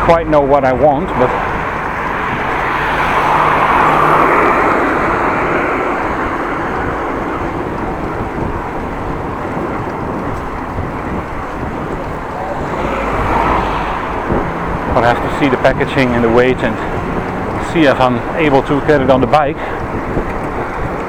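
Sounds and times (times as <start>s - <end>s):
bicycle road noise: 0.0s - 21.0s
wind rushing on microphone: 0.0s - 21.0s.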